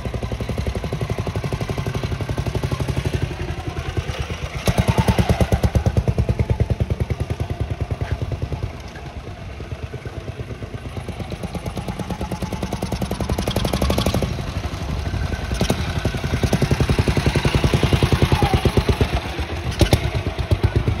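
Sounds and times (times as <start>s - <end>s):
motorcycle engine passing: 0.0s - 21.0s.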